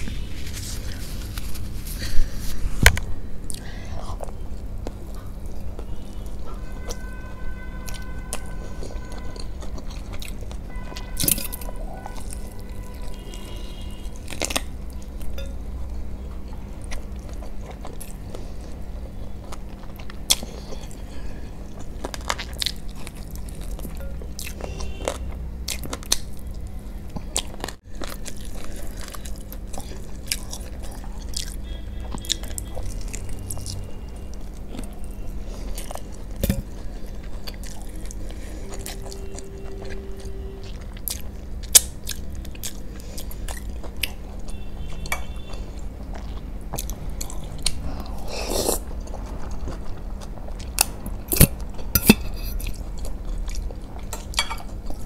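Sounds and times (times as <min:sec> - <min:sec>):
steady low hum: 0:00.0 - 0:55.0
biting and chewing: 0:07.8 - 0:55.0.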